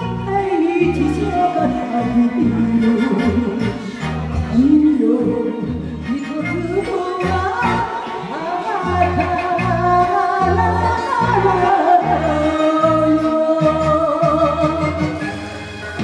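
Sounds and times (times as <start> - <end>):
woman singing into microphone: 0.0 - 15.3
karaoke backing track: 0.0 - 16.0.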